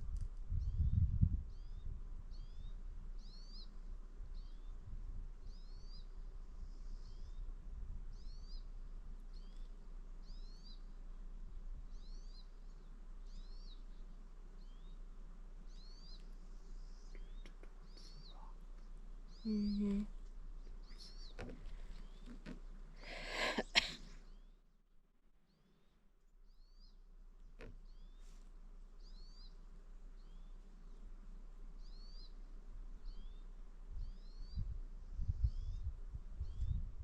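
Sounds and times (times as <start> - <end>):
faint background hiss: 0.0 - 37.0
small bird chirping: 0.5 - 24.6, 25.5 - 36.9.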